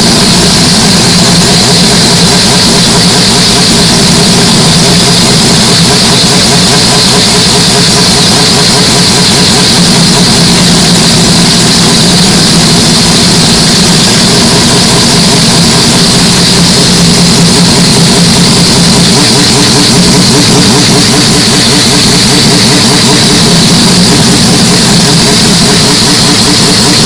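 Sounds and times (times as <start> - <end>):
distorted rotary engine running: 0.0 - 27.0.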